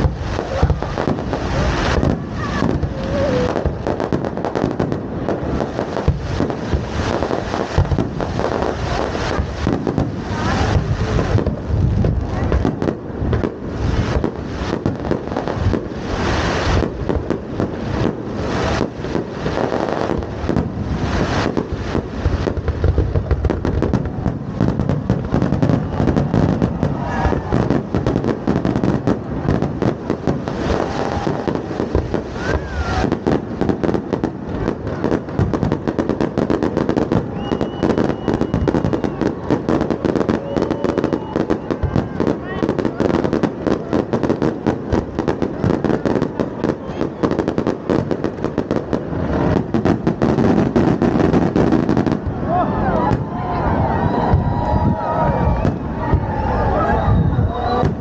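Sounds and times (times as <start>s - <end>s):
firework whistling: 0.0s - 58.0s
fireworks banging and crackling: 0.0s - 58.0s.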